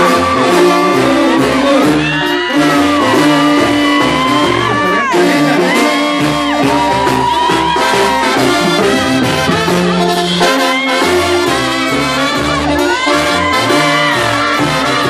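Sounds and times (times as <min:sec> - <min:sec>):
brass band playing: 0:00.0 - 0:15.0
sousaphone bass line: 0:00.0 - 0:15.0.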